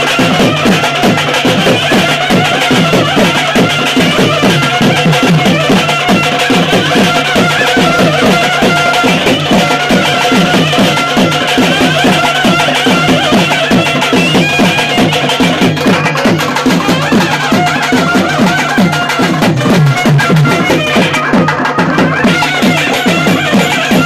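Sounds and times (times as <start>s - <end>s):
reed-like wind instrument tones: 0.0s - 24.0s
stick-beaten barrel drums: 0.0s - 24.0s.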